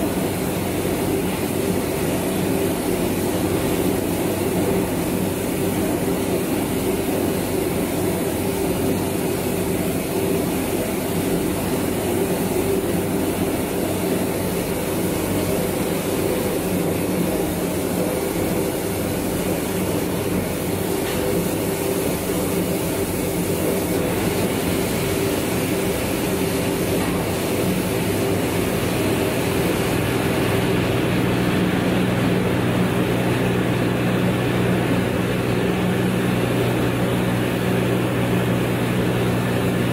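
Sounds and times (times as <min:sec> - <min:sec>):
rice milling machine humming: 0:00.0 - 0:39.9.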